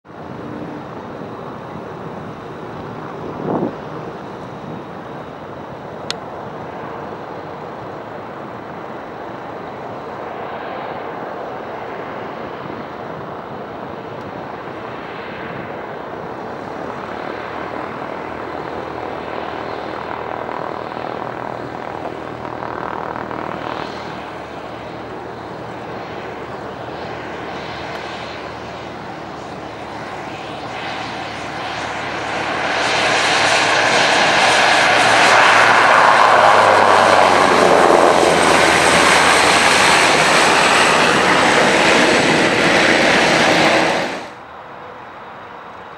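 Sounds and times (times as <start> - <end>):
propeller airplane engine running: 0.1 - 45.9.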